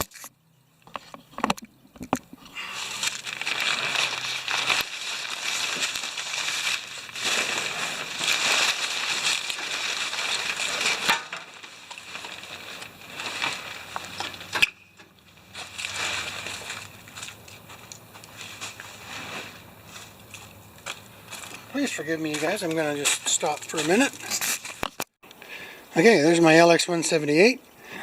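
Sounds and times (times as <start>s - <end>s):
crunching rustling noise: 0.0s - 25.1s.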